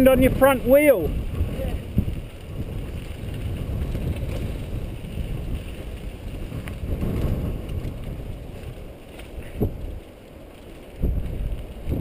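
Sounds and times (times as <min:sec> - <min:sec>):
bike rattling: 0:00.0 - 0:12.0
bike tyres rolling over dirt: 0:00.0 - 0:12.0
wind buffeting microphone: 0:00.0 - 0:12.0.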